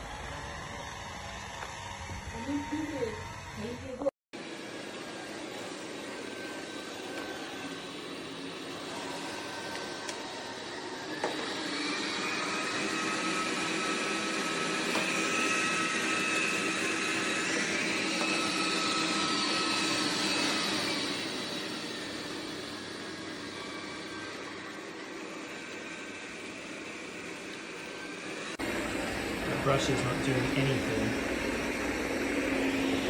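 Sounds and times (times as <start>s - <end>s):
robot vacuum whirring hum: 0.0s - 33.0s.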